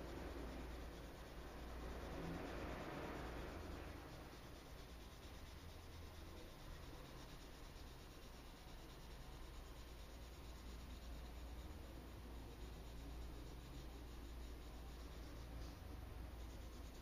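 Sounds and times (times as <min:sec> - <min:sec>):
low steady hum: 0:00.0 - 0:17.0
pencil scratching on paper: 0:00.0 - 0:17.0.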